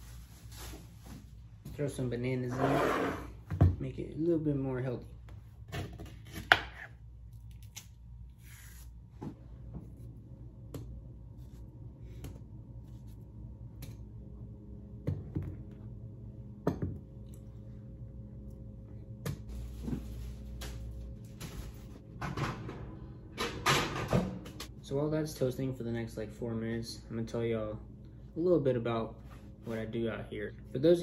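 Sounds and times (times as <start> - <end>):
steady low hum: 3.2 - 31.0.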